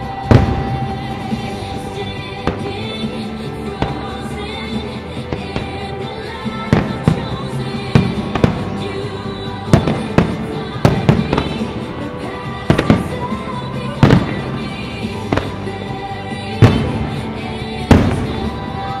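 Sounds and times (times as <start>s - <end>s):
fireworks bursting with bangs: 0.0s - 19.0s
music playing: 0.0s - 19.0s.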